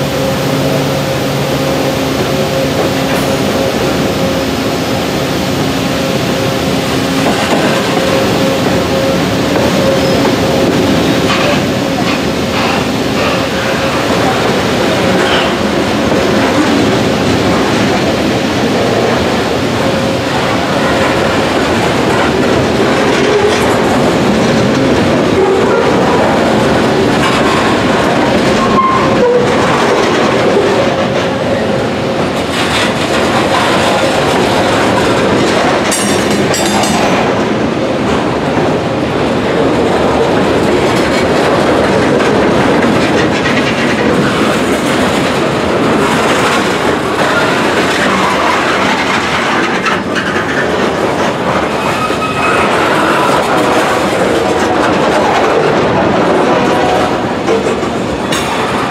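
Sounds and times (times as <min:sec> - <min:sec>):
freight train rolling past: 0:00.0 - 0:58.9
steel wheels clicking over rail joints: 0:06.8 - 0:38.8, 0:39.5 - 0:58.9.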